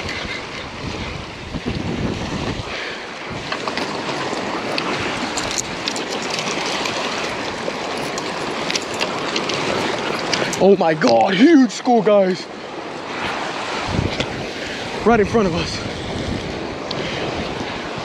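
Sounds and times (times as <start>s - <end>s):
waves washing against rocks: 0.0s - 18.0s
wind buffeting microphone: 0.0s - 18.0s.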